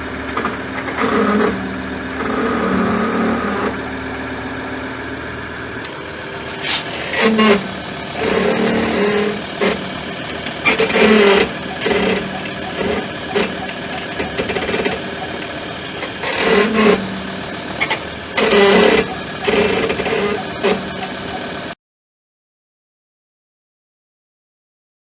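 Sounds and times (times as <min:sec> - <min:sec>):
brakes groaning: 0:00.0 - 0:21.8
vehicle noise: 0:00.0 - 0:21.8.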